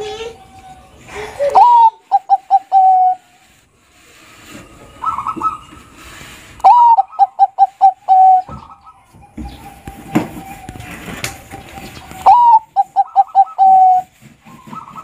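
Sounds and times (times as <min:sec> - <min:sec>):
dove cooing: 0:01.4 - 0:03.6, 0:04.5 - 0:15.0.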